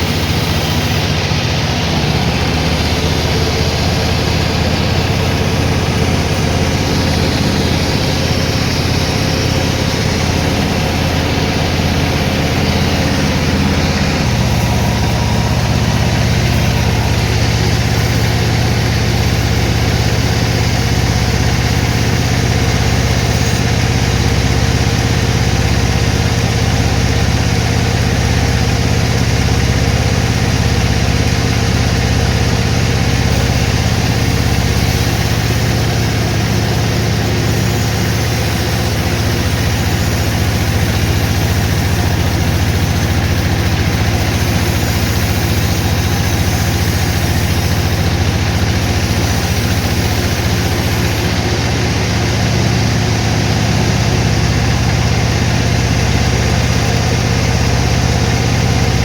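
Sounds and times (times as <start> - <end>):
high machine hiss: 0.0 - 59.0
sawmill machinery humming: 0.0 - 59.0.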